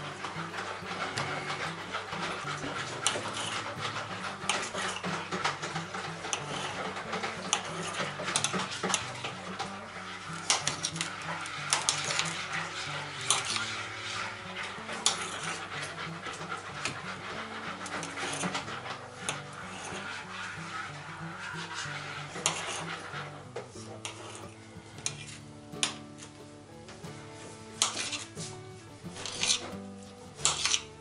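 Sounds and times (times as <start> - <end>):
background music: 0.0 - 31.0.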